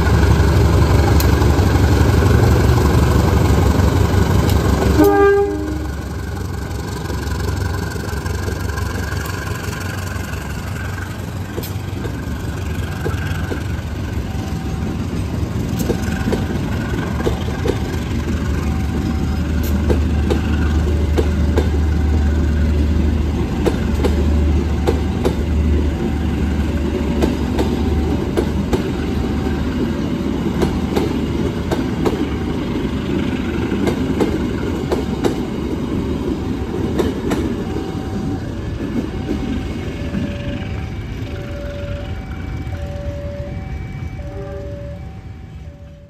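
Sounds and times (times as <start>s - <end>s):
train wheels clacking over rail joints: 0.0s - 14.1s, 14.9s - 38.0s
deep locomotive engine rumble: 0.0s - 46.0s
two-tone crossing warning bell: 2.6s - 34.9s, 36.6s - 46.0s.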